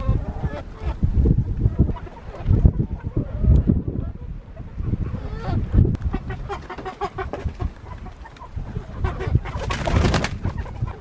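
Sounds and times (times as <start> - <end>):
chickens clucking: 0.0 - 11.0
wind on microphone: 0.0 - 11.0.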